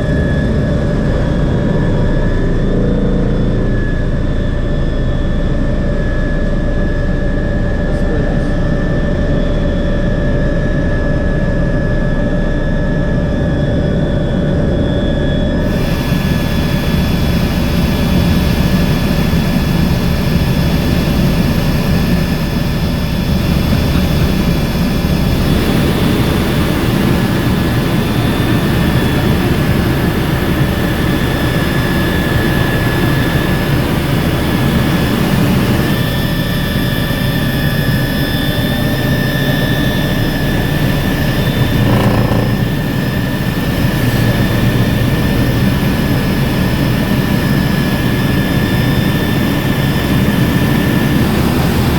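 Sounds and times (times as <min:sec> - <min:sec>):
helicopter engine whine and rotor rumble: 0:00.0 - 0:51.9.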